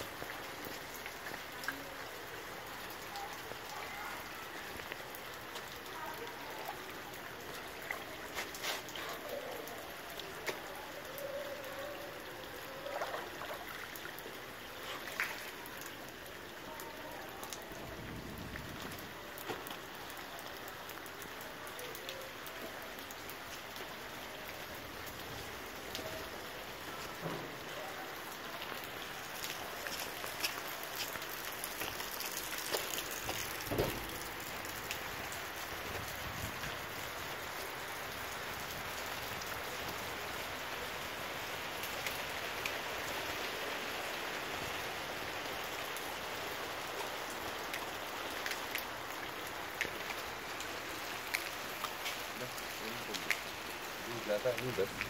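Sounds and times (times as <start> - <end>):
rain on flooded street: 0.0 - 55.0.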